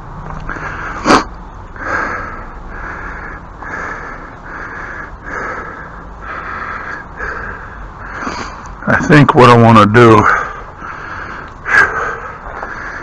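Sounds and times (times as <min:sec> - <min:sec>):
man breathing hard: 0:00.5 - 0:08.8, 0:10.2 - 0:13.0.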